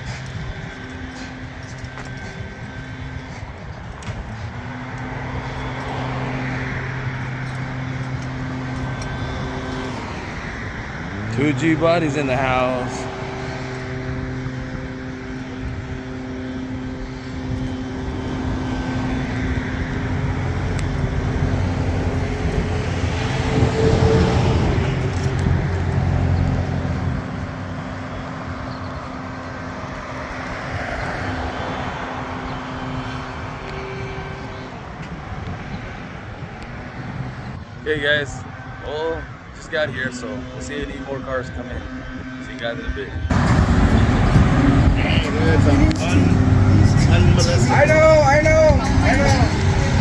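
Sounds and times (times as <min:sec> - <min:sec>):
car engine running: 0:00.0 - 0:34.7, 0:43.3 - 0:50.0
road noise: 0:00.0 - 0:50.0.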